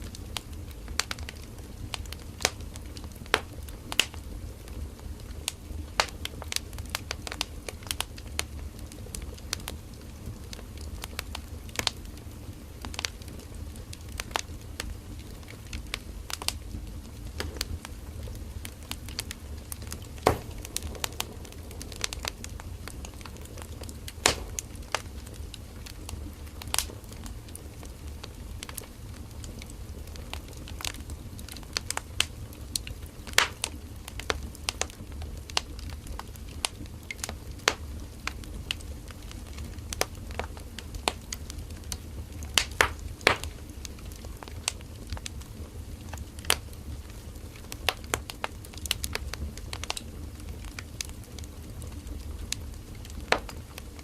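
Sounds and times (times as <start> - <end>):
firewood crackling and popping: 0.0 - 54.0
low rumble of fire: 0.0 - 54.0.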